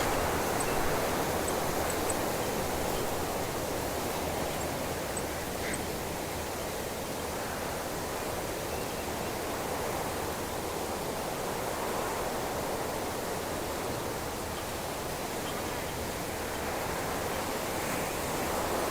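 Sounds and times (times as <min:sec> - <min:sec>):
wind through bush foliage: 0:00.0 - 0:18.9.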